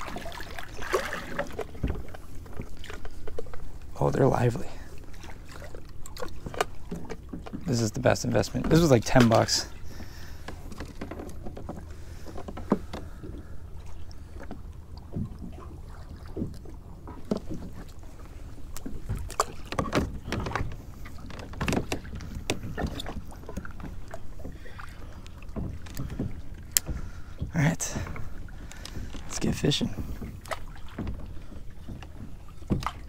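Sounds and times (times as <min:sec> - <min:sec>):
water and wind against hull: 0:00.0 - 0:33.0.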